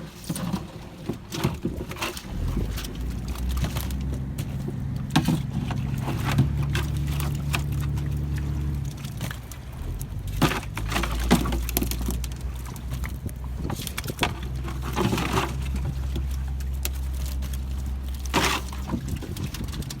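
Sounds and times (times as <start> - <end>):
boat engine running: 0.5 - 20.0.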